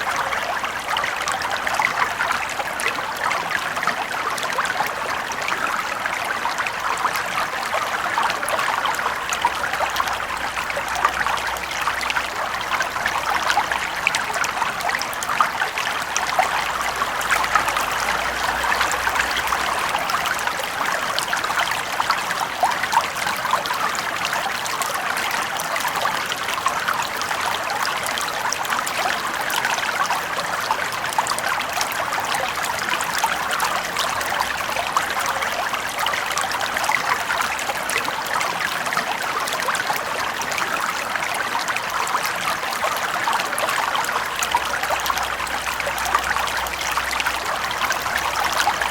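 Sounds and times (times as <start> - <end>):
brook trickling and rippling: 0.0 - 48.9.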